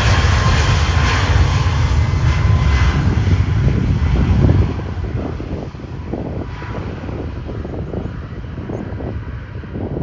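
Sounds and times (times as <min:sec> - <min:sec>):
jet engines rumbling: 0:00.0 - 0:10.0
wind buffeting microphone: 0:00.0 - 0:10.0.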